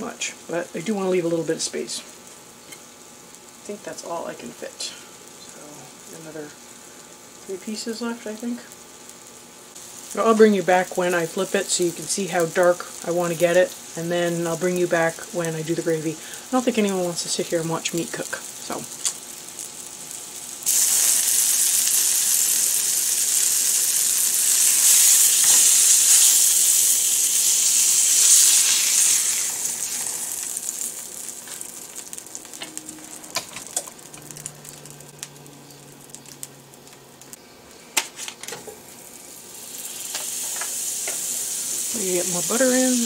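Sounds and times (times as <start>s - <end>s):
steak sizzling in oil: 0.0s - 37.4s, 38.1s - 43.0s.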